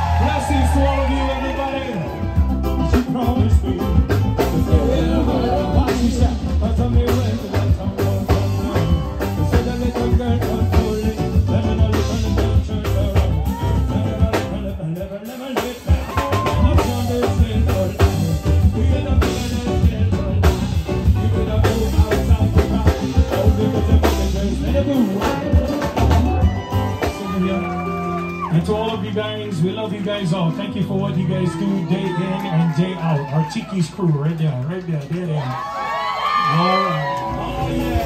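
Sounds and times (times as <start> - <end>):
drum kit: 0.0 - 31.0, 37.2 - 38.0
keyboard: 0.0 - 34.0
bass guitar: 0.0 - 36.4, 37.0 - 38.0.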